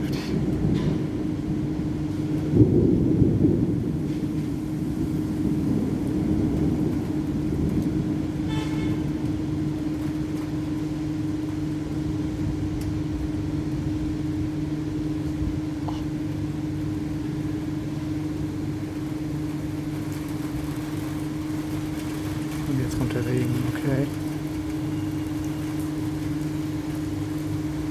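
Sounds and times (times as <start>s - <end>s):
constant low hum: 0.0s - 27.9s
thunder rumbling: 0.0s - 27.9s.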